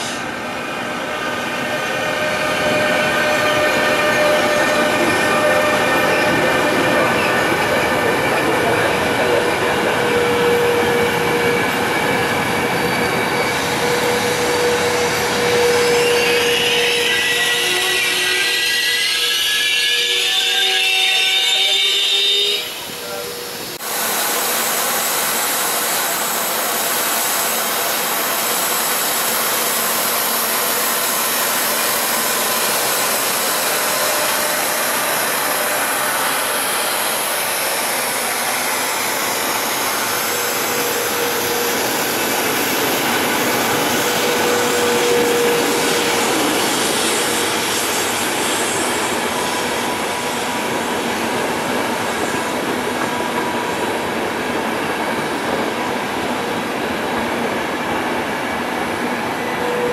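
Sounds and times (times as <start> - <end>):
train wheels rushing on rails: 0.0 - 59.9.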